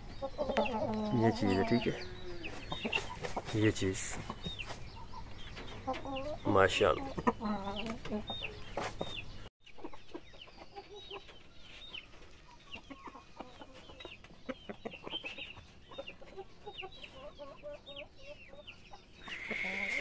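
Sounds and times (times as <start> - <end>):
chickens clucking softly: 0.0 - 20.0.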